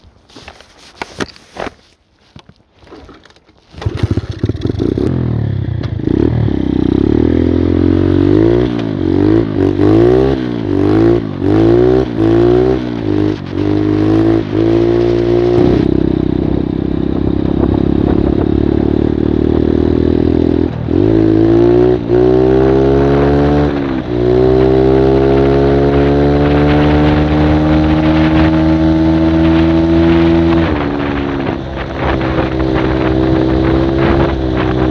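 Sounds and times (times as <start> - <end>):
mini-bike engine revving: 3.7 - 34.9.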